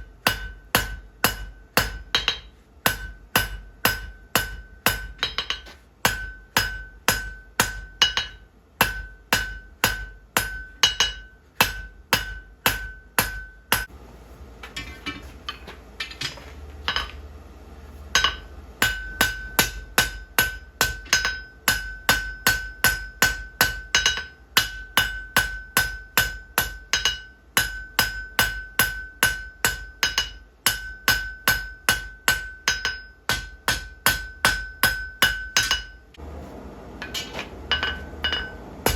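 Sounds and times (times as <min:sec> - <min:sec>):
hammer ringing on anvil: 0:00.2 - 0:13.9, 0:18.2 - 0:36.0, 0:37.0 - 0:38.9.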